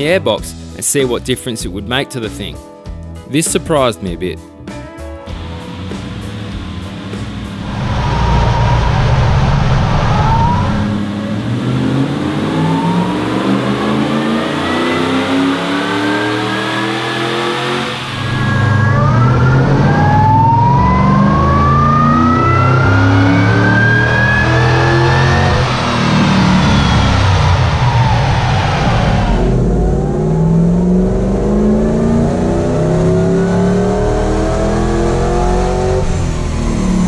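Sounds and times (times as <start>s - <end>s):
engine revving at full throttle: 5.3s - 37.0s
high supercharger whine: 5.3s - 37.0s.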